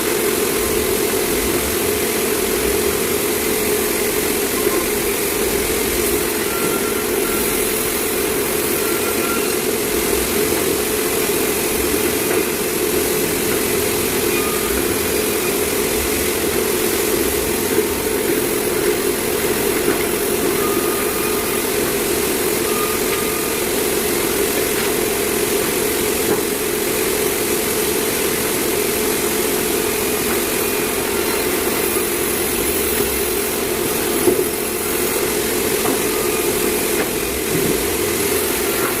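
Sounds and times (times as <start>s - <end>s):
sawmill machinery drone: 0.0s - 39.0s.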